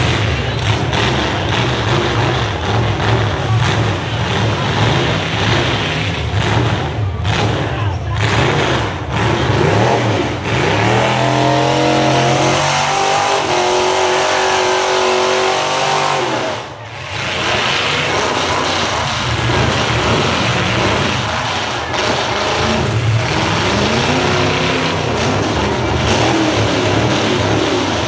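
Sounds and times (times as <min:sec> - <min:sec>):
car engines revving unevenly: 0:00.0 - 0:28.0.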